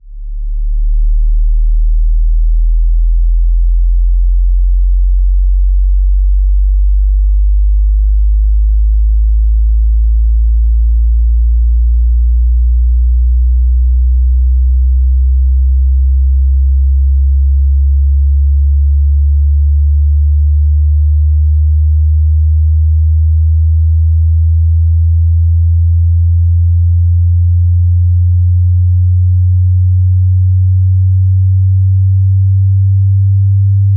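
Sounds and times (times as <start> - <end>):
rising sine bass tone: 0.0 - 33.9.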